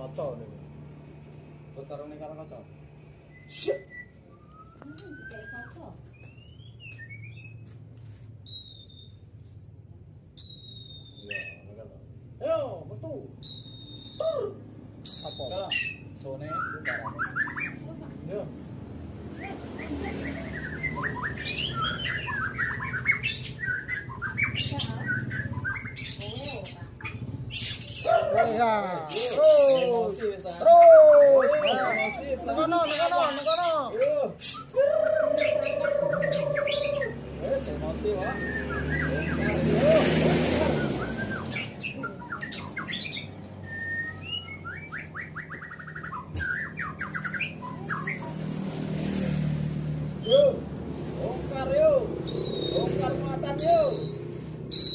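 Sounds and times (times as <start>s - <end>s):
bird calling with sweeping notes: 0.0s - 9.5s, 10.2s - 12.1s, 13.3s - 18.0s, 19.2s - 54.9s.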